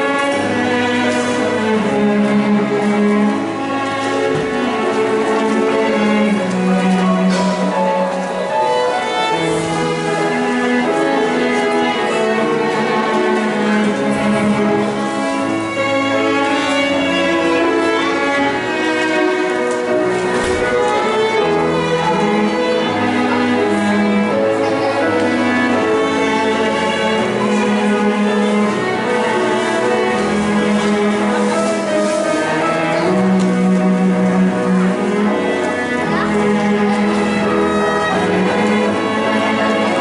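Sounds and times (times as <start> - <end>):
string trio playing slow hymn: 0.0 - 40.0.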